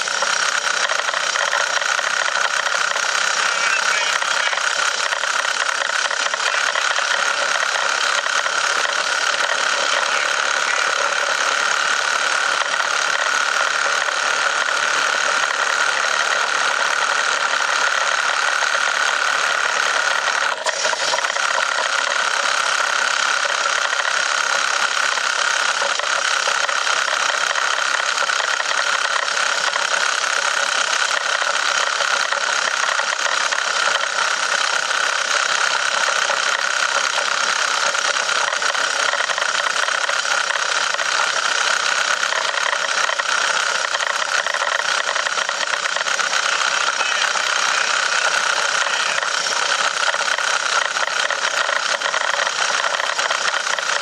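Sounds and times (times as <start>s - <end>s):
car engine running under load: 0.0s - 54.0s.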